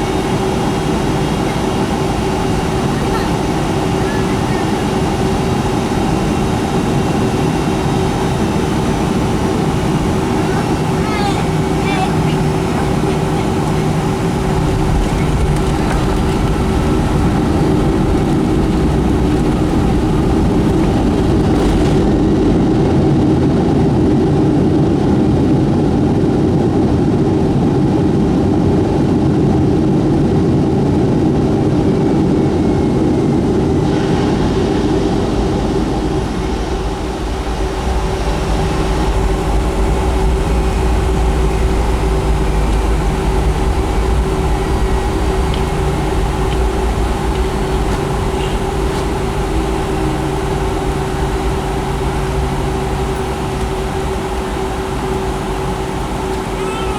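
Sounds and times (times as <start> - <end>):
aircraft cabin engine hum: 0.0 - 56.9.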